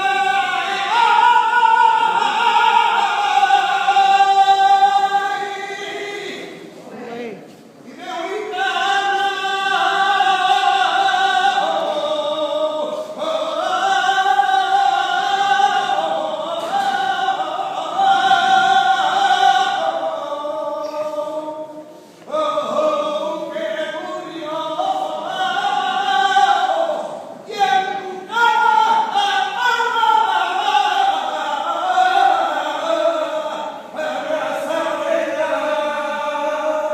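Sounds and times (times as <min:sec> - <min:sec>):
person singing unaccompanied: 0:00.0 - 0:36.9.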